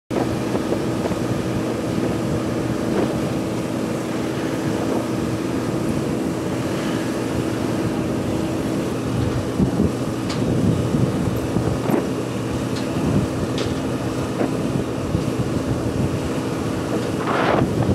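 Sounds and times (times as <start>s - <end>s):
ground equipment droning: 0.1s - 17.9s.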